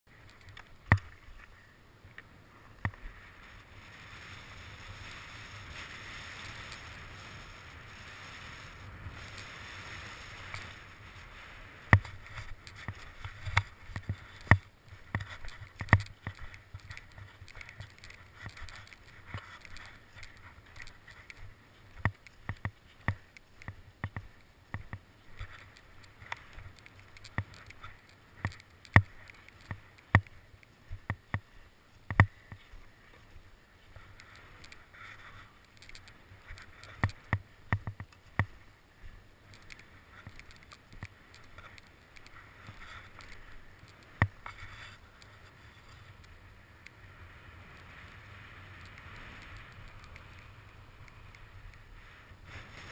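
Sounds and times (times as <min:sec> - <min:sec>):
skis and poles clicking on snow: 0:00.1 - 0:52.9.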